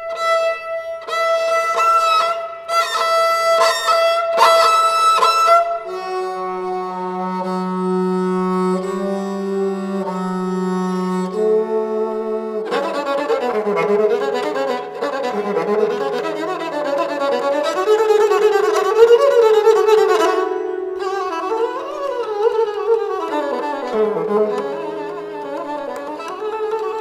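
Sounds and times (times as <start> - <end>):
bowed string instrument: 0.0 - 27.0.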